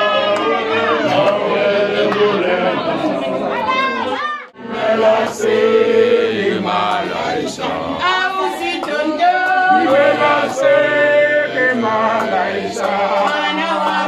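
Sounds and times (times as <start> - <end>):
group singing without instruments: 0.0 - 14.0.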